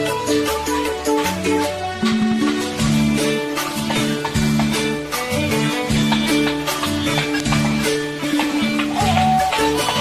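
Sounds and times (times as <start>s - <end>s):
instrumental karaoke backing track: 0.0s - 10.0s.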